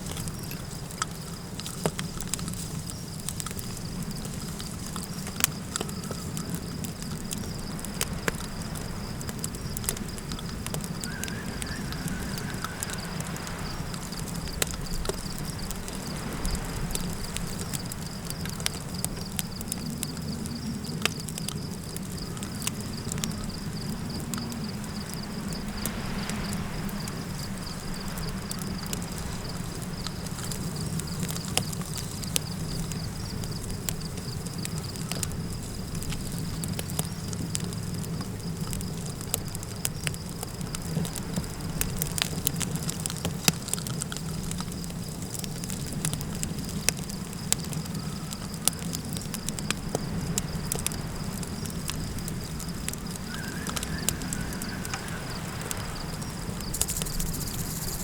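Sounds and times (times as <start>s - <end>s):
campfire crackling: 0.0s - 58.0s
insects trilling: 0.0s - 58.0s
low rumble of wind: 0.0s - 58.0s.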